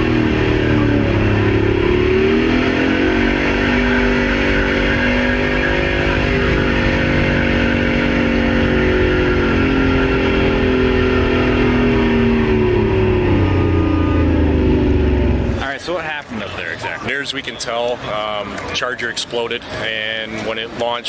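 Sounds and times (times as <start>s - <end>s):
diesel engine running flat out: 0.0s - 21.0s.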